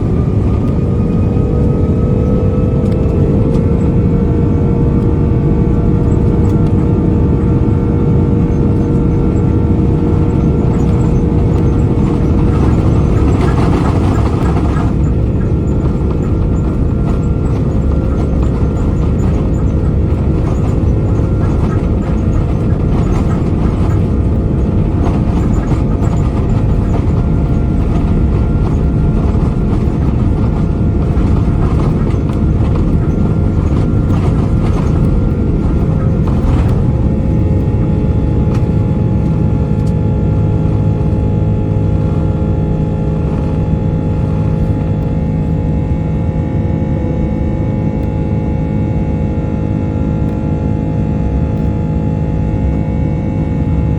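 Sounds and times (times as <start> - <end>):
aircraft cabin engine rumble: 0.0 - 53.9.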